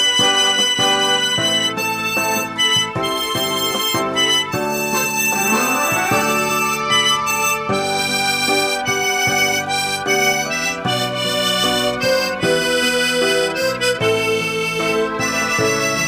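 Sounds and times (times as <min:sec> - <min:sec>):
tremolo harmonica playing slow melody: 0:00.0 - 0:16.0.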